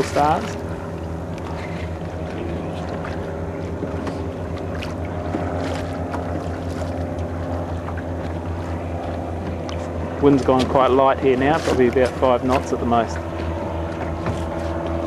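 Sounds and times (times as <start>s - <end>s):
boat motor running: 0.0s - 15.0s
water noise: 0.0s - 15.0s
wind: 0.0s - 15.0s.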